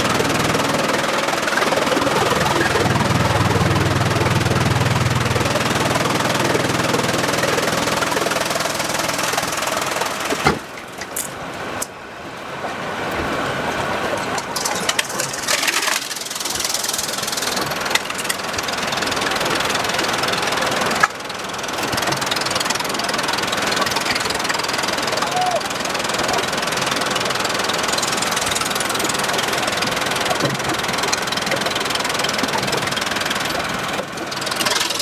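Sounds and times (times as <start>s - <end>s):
sawmill machinery running: 0.0s - 11.8s, 12.8s - 35.0s.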